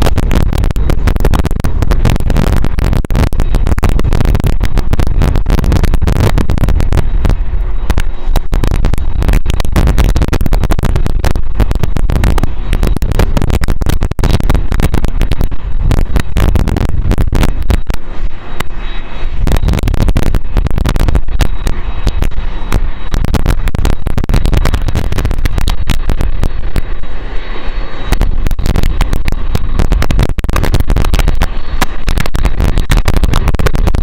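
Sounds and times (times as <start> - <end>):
jet engines low rumble: 0.0 - 34.0
wind buffeting microphone: 0.0 - 34.0.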